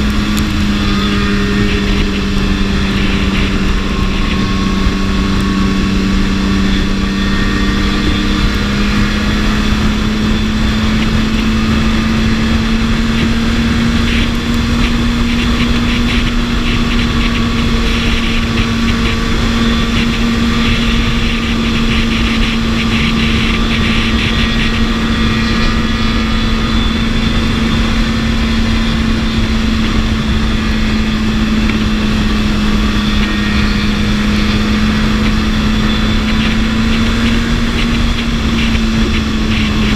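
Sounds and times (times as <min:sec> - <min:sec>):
motorcycle engine running at speed: 0:00.0 - 0:39.9
wind noise rushing: 0:00.0 - 0:39.9.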